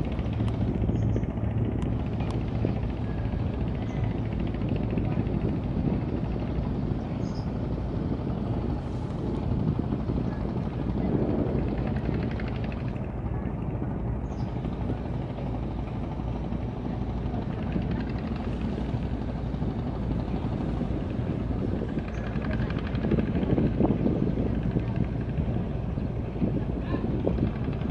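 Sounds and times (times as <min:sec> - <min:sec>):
boat engine rumbling: 0:00.0 - 0:27.9.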